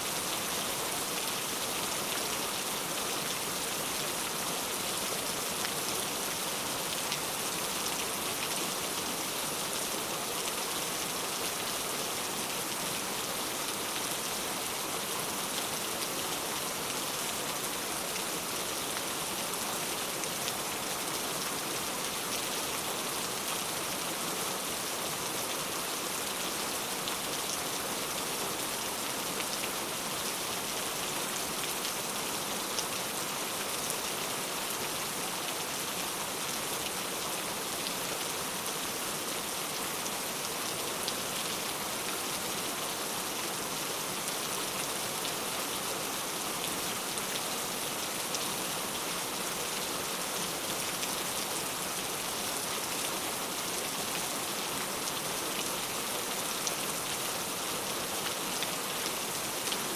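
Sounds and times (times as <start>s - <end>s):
heavy rain on hard surfaces: 0.0s - 59.9s.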